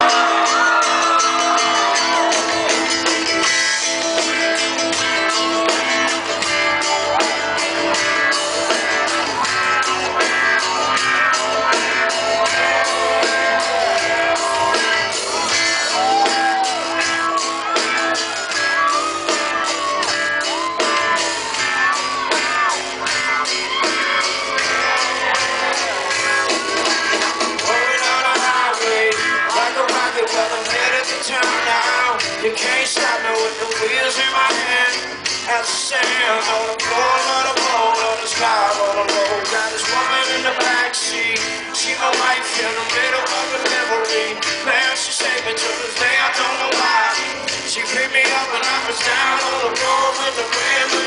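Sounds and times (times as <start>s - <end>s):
crowd shouting: 0.0s - 51.0s
live band playing: 0.0s - 51.0s
steady drum beat: 0.0s - 51.0s.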